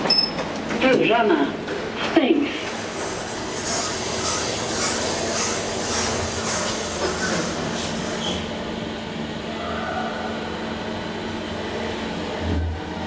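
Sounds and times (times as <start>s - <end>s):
elevator car humming: 0.0s - 13.0s.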